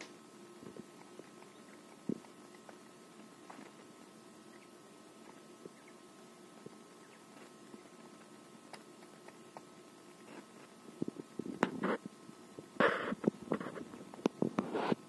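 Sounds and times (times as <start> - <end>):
quiet steady hum: 0.0 - 15.0.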